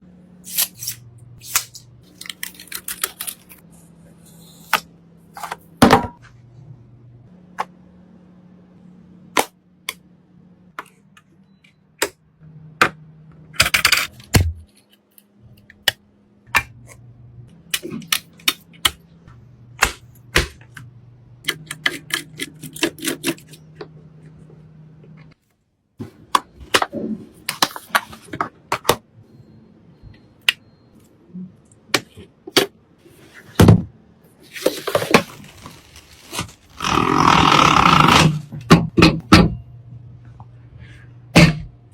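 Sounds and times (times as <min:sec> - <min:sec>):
low steady hum: 0:00.0 - 0:25.4, 0:26.0 - 0:41.9.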